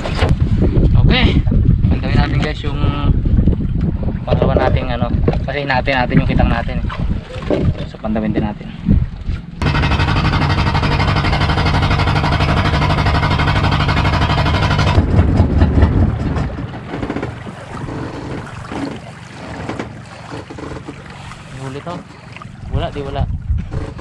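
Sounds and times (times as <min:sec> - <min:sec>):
boat engine running: 0:01.7 - 0:24.0.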